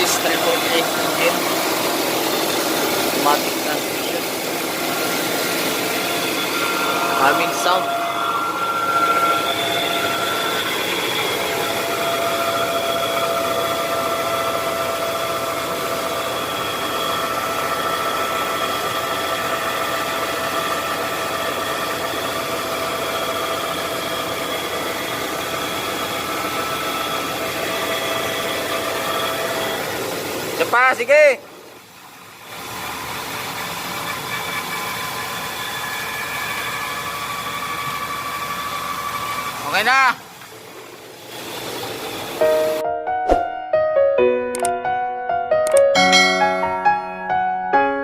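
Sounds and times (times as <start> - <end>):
differential whining hum: 0.0 - 42.9.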